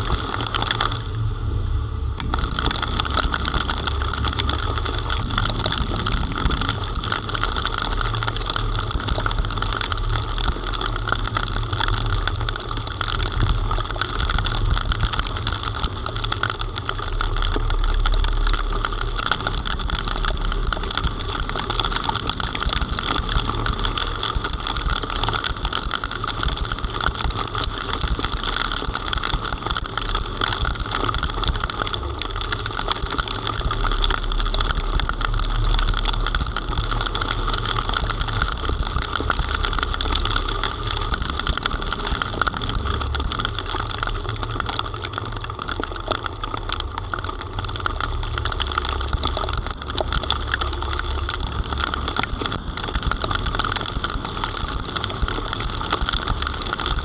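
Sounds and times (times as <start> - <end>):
heavy rain pelting down: 0.0 - 57.0
low rumble: 0.0 - 57.0.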